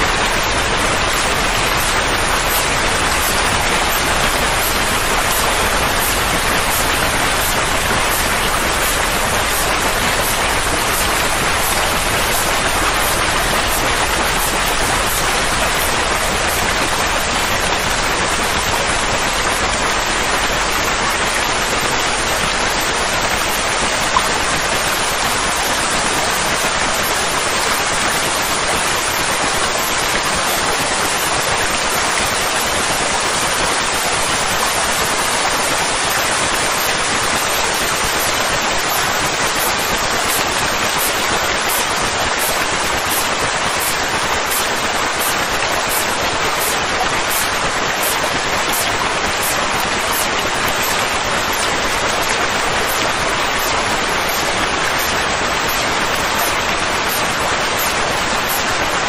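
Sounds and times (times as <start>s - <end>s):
steady rain-like noise: 0.0s - 59.0s.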